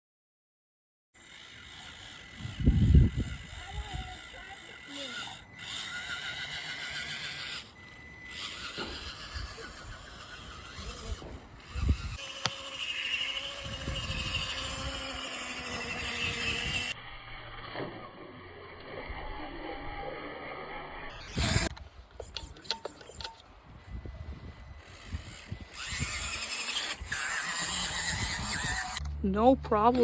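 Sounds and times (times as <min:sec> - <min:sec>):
rc crawler motor whining: 0:01.2 - 0:30.0.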